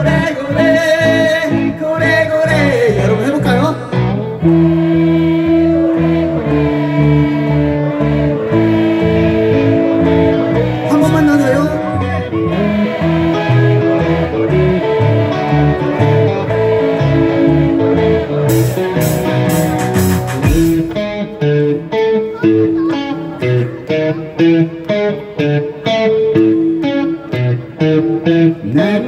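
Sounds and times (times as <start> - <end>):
electric guitar chords: 0.0 - 29.0
live rock band playing: 0.0 - 29.0.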